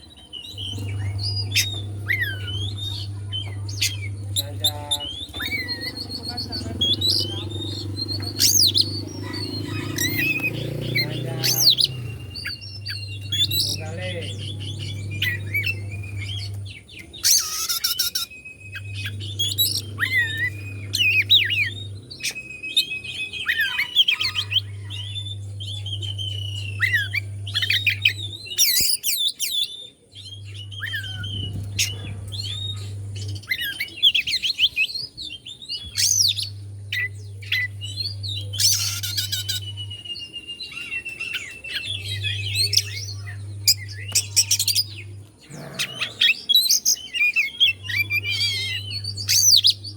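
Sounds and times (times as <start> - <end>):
bird singing whistles and trills: 0.0 - 49.9.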